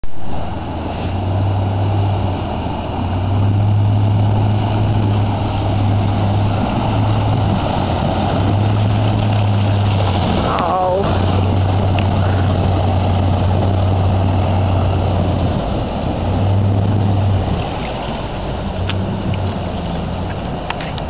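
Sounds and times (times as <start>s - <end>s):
car engine droning: 0.0s - 21.0s
water rushing around vehicle: 0.0s - 21.0s.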